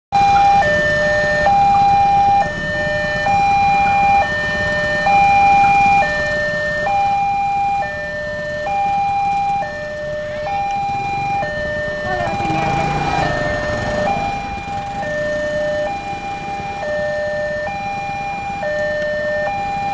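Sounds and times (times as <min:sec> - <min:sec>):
level crossing two-tone alarm: 0:00.1 - 0:19.9.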